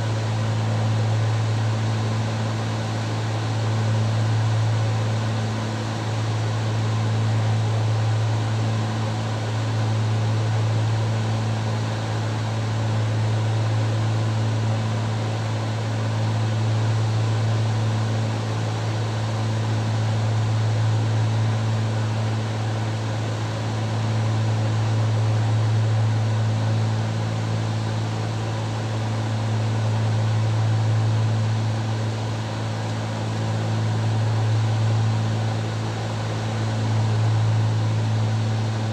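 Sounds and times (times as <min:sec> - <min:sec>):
propeller aircraft cabin drone: 0:00.0 - 0:38.9.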